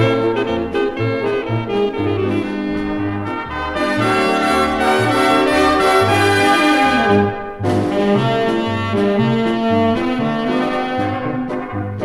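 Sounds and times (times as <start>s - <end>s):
bass line: 0.0s - 12.0s
horn section playing melody: 0.0s - 12.0s.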